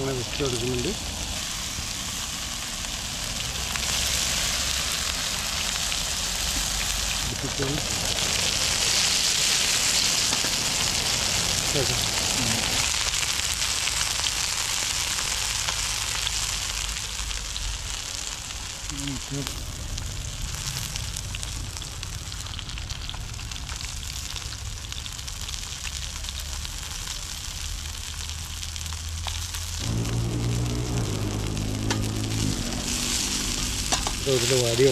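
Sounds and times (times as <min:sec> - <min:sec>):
fish sizzling in frying pan: 0:00.0 - 0:34.9.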